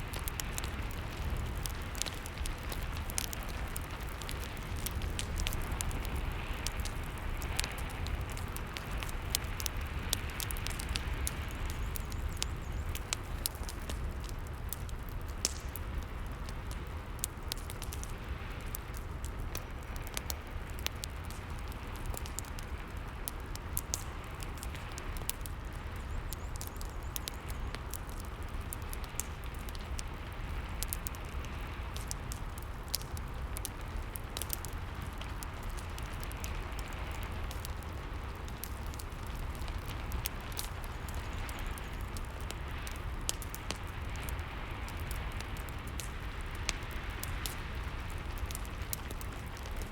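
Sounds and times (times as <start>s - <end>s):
fire crackling and popping: 0.0s - 49.9s.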